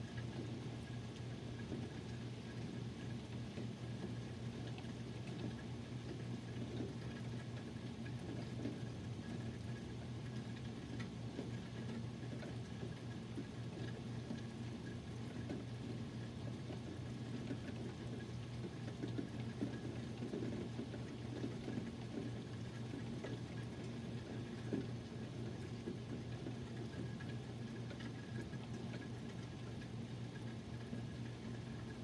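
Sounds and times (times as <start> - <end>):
low steady hum: 0.0 - 32.0
rain pattering: 0.0 - 32.0.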